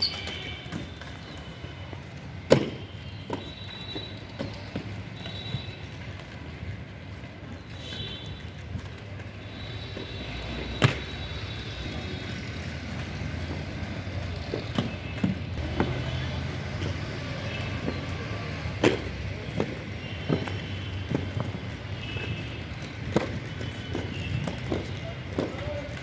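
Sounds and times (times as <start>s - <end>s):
skate wheels rolling on concrete: 0.0s - 26.0s.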